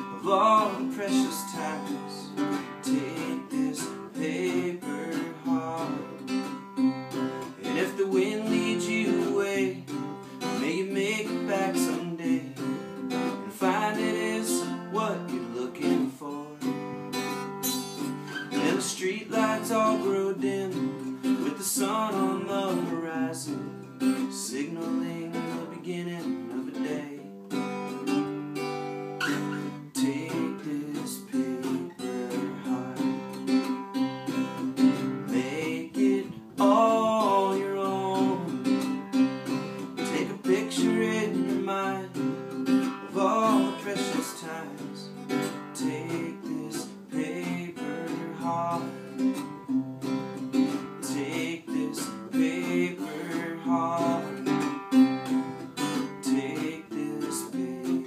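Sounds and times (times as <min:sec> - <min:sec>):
acoustic guitar strumming chords: 0:00.0 - 0:58.0.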